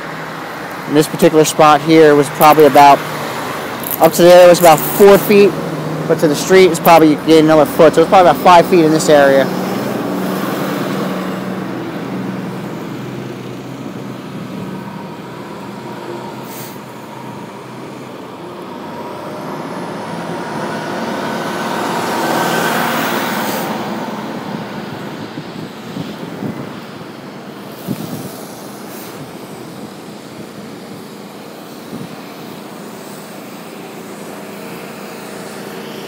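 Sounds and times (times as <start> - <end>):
heavy vehicle engine passing: 0.0 - 36.0.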